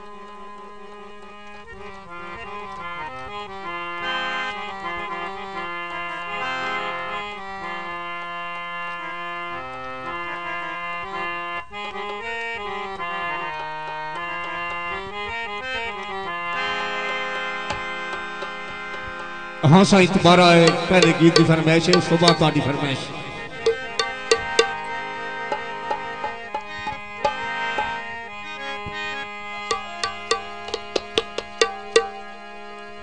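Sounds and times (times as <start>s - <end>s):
harmonium melody over drone: 0.0s - 33.0s.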